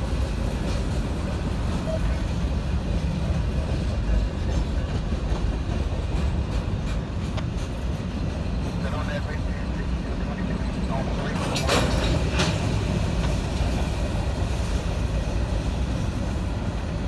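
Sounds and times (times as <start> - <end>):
train passing with low rumble: 0.0 - 17.0.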